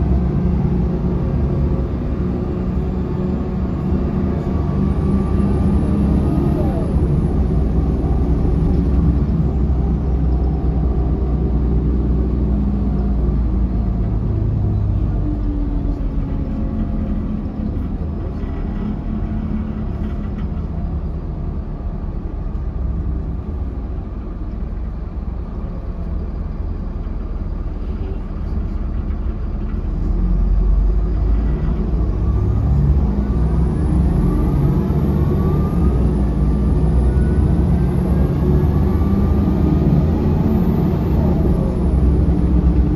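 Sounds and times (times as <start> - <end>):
bus diesel engine droning: 0.0 - 42.9.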